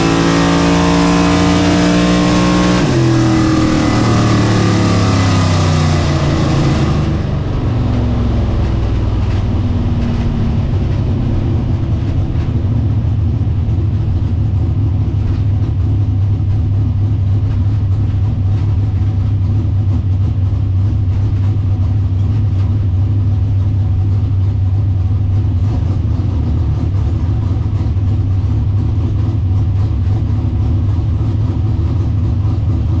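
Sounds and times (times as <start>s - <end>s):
car engine deep rumble: 0.0s - 33.0s.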